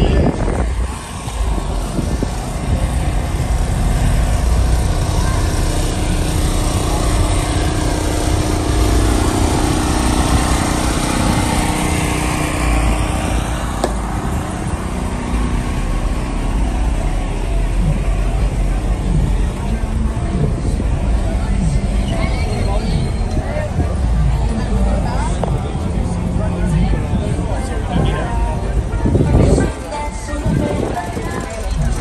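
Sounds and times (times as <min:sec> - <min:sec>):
engines humming with low rumble: 0:00.0 - 0:32.0.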